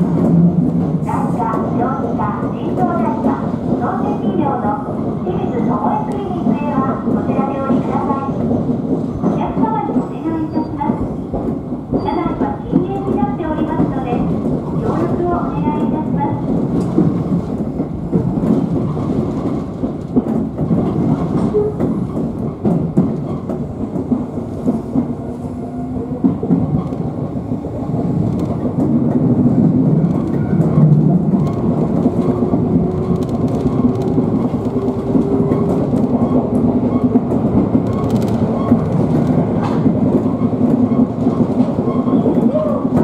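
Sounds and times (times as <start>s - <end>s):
train running rumble: 0.0s - 43.0s.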